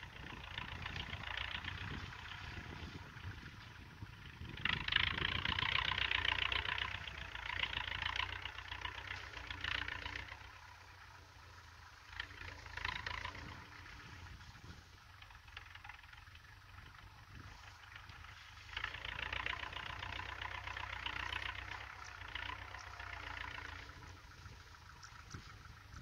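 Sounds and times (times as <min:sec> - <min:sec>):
distant tractor engine rumble: 0:00.0 - 0:26.0.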